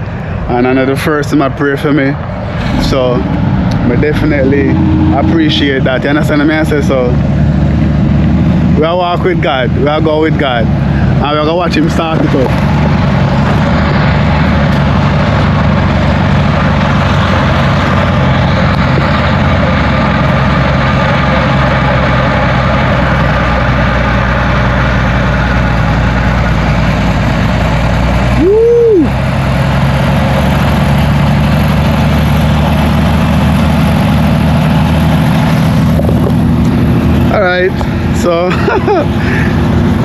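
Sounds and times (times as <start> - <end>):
helicopter engine droning: 0.0 - 40.0
rising and falling tone: 2.2 - 8.9, 10.6 - 40.0.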